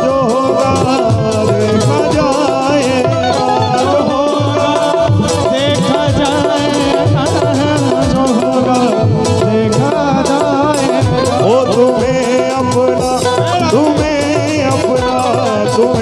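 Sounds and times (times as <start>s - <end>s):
hand drum beating rhythm: 0.0s - 16.0s
keyboard melody: 0.0s - 16.0s
man singing: 0.0s - 16.0s.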